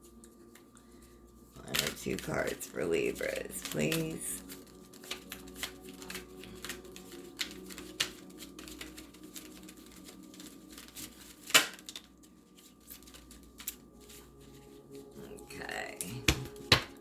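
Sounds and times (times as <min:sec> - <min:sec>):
cards being shuffled: 0:01.5 - 0:17.0.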